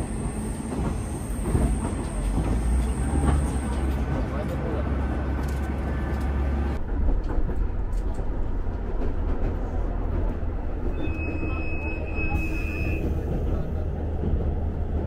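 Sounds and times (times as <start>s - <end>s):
engine and wheels rumbling: 0.0s - 15.0s.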